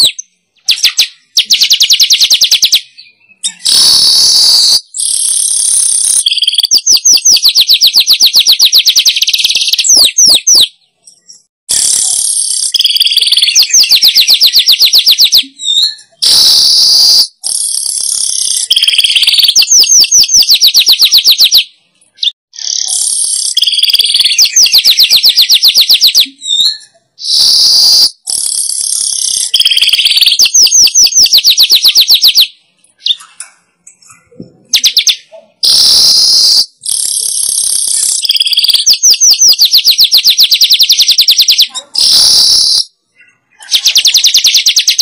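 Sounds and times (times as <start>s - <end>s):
weaver bird song: 0.0s - 45.0s.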